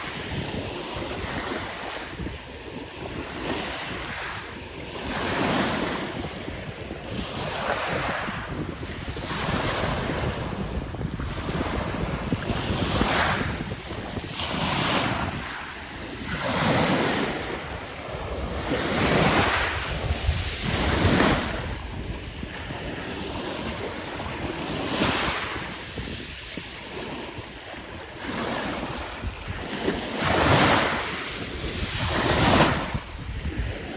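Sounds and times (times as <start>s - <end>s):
waves washing over pebble beach: 0.0s - 33.9s.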